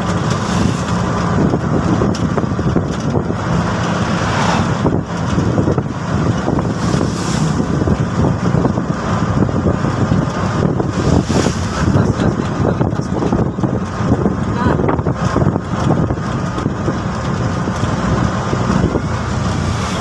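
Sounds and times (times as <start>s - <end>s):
road and wind noise: 0.0s - 20.0s
three-wheeler engine running: 0.0s - 20.0s.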